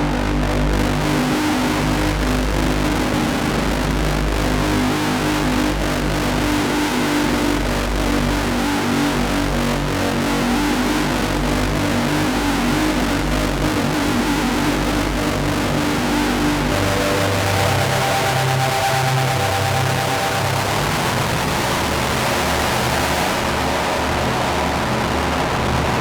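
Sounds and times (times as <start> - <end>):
noisy synth drone: 0.0 - 26.0.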